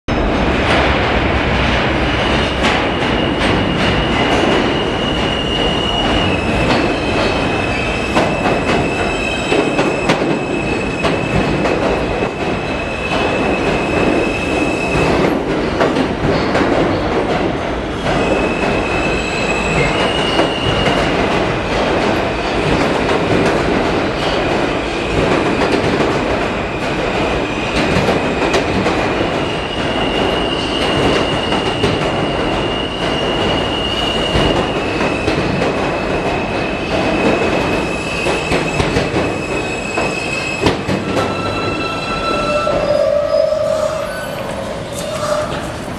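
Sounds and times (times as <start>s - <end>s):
subway train wheels rumbling: 0.1s - 45.9s.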